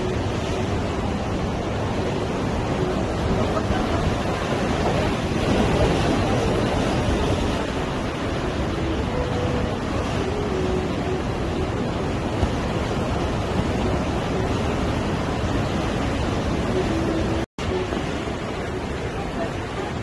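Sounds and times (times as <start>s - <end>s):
sea surf washing on beach: 0.0s - 20.0s
wind: 0.0s - 20.0s.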